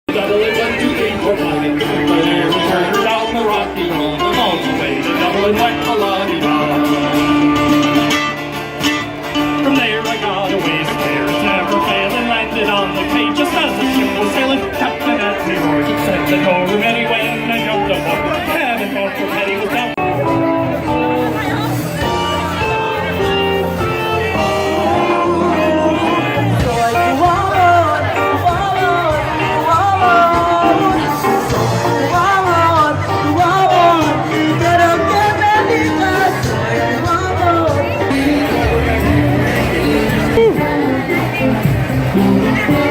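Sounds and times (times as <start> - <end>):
country song with guitar: 0.1 - 42.9
loud music: 0.1 - 42.9
person singing: 0.1 - 42.9
steady bass line: 0.1 - 42.9.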